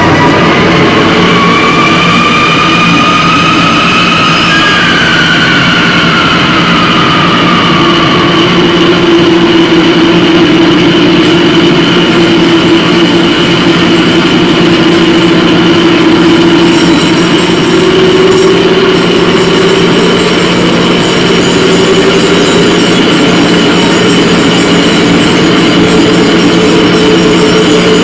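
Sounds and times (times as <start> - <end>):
electronic noise music drone: 0.0 - 28.0.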